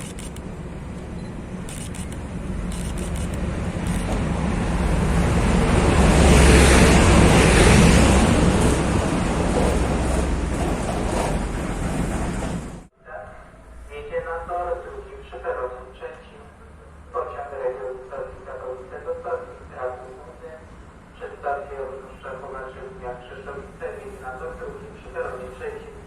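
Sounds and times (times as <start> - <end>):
train wheels and engine rumbling: 0.0 - 26.0.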